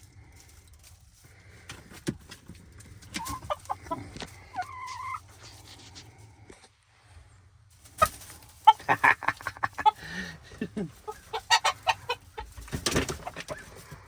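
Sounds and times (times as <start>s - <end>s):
rustling: 0.0s - 14.0s
chickens clucking: 1.5s - 6.7s, 7.8s - 14.0s.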